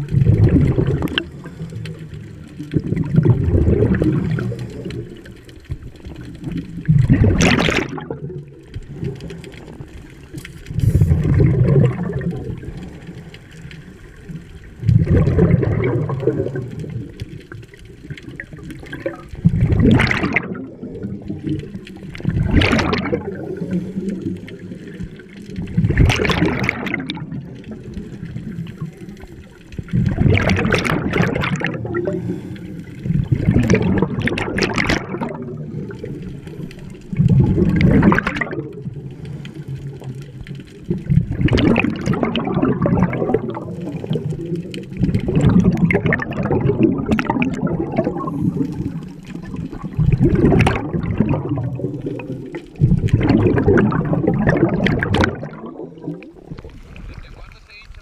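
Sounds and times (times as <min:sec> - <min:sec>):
bubbling exhaled air: 0:00.0 - 0:57.8.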